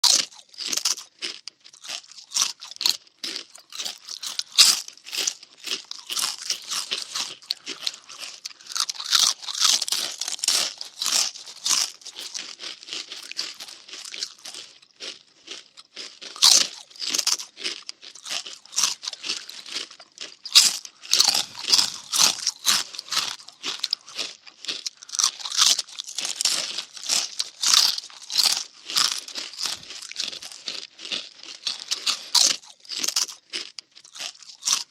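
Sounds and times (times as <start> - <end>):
cartoon munching: 0.0 - 14.8, 15.6 - 34.9.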